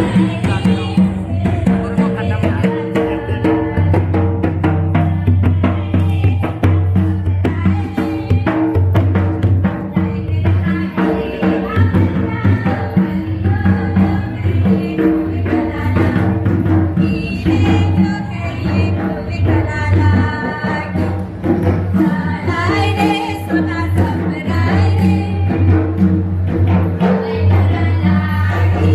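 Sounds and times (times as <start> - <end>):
voices singing: 0.0 - 21.2, 21.9 - 25.8, 26.8 - 28.9
drums and hand percussion: 0.0 - 28.9.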